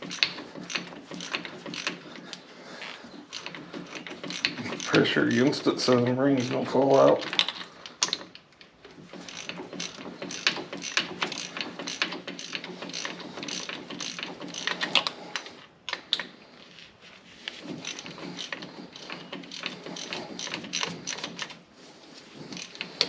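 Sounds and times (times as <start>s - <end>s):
ratchet wrench clicking: 0.0s - 2.0s, 3.3s - 8.4s, 9.1s - 16.3s, 17.8s - 21.6s, 22.5s - 23.0s.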